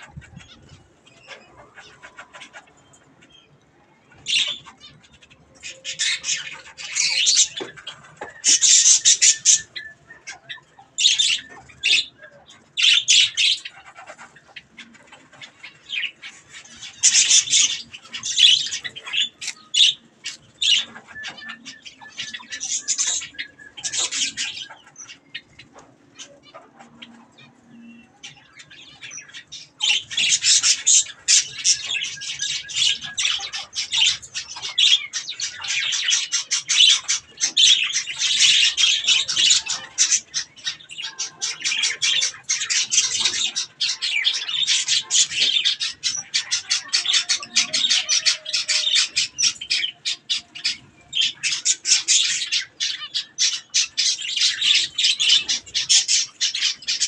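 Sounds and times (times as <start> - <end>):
budgerigars chattering: 4.1 - 57.0.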